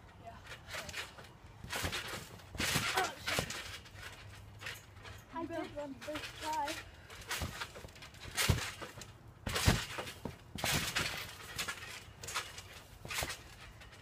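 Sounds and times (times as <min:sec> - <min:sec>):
trampoline springs jangling: 0:00.1 - 0:14.0
people landing on trampoline: 0:00.3 - 0:14.0.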